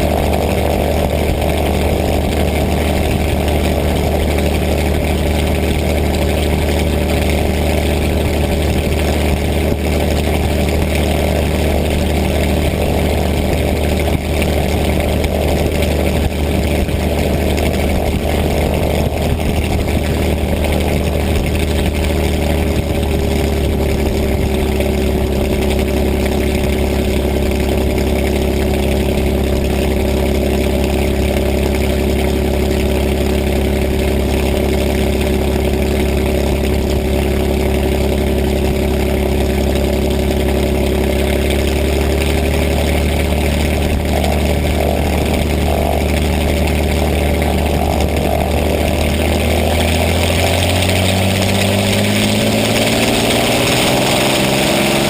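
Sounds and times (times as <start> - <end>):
aircraft engine idling: 0.0 - 55.0.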